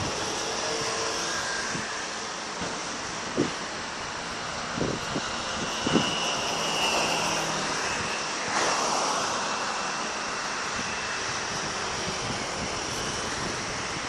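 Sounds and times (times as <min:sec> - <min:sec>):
steady rushing background noise: 0:00.0 - 0:14.0.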